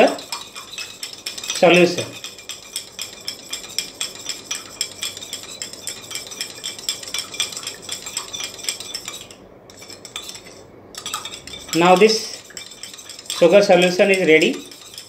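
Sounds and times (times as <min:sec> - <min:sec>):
metal spoon clinking in tumbler: 0:00.0 - 0:15.0.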